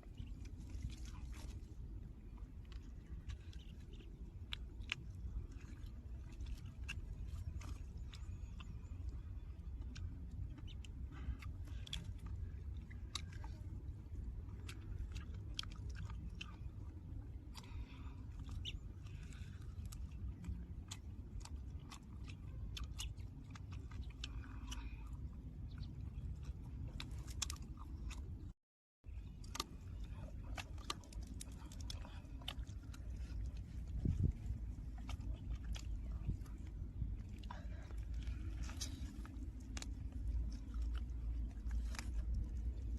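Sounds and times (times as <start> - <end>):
person chewing food: 0.0 - 42.9
steady low rumble: 0.0 - 42.9.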